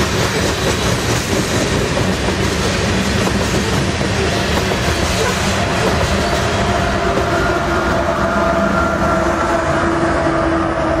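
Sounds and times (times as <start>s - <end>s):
diesel locomotive engine: 0.0s - 11.0s
train wheels on rails: 0.0s - 11.0s.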